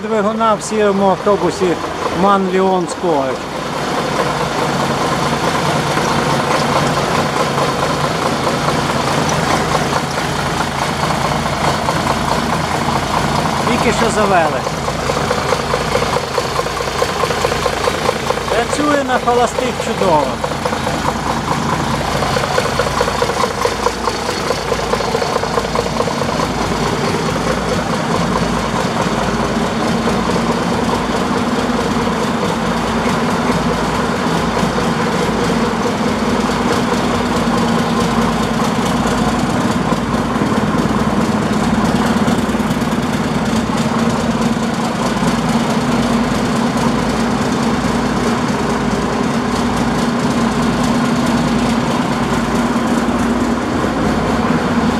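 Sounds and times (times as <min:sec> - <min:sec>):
diesel coach engine idling: 0:00.0 - 0:54.9.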